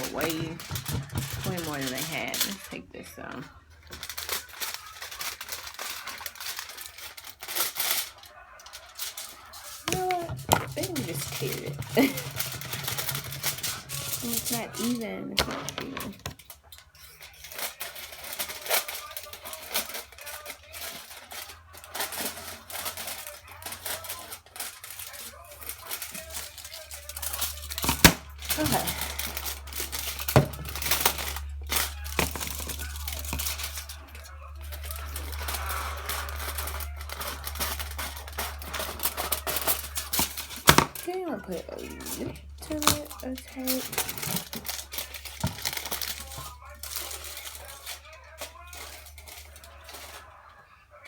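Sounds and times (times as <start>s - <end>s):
aluminum foil tearing and crumpling: 0.0s - 51.0s
wrapping material crackling: 0.0s - 51.0s.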